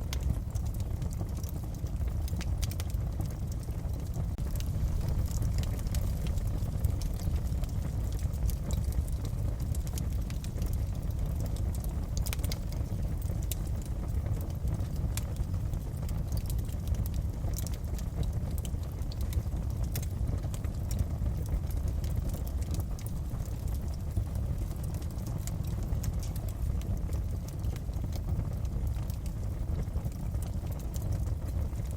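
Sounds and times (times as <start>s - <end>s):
low rumble of flame: 0.0s - 31.9s
wood fire popping and snapping: 0.0s - 31.9s.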